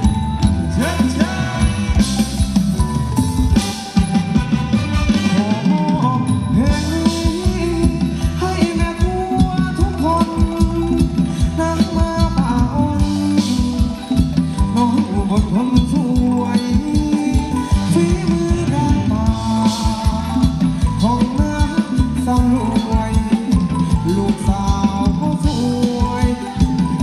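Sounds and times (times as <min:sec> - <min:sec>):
live band dance music: 0:00.0 - 0:27.0.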